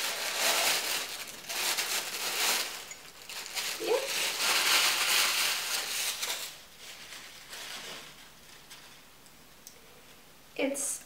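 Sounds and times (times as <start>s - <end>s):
tissue paper rustling: 0.0s - 9.1s.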